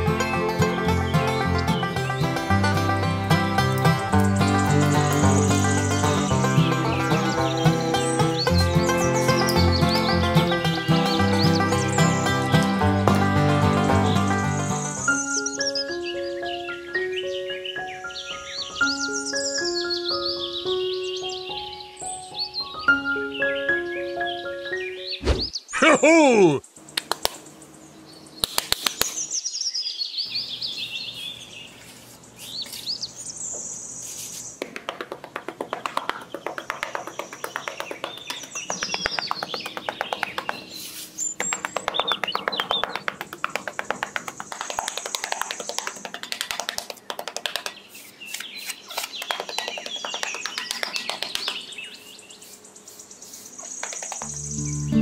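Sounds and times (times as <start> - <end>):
birds chirping and whistling: 4.1 - 12.8, 13.9 - 26.0, 27.6 - 34.6, 36.3 - 46.0, 47.6 - 55.0.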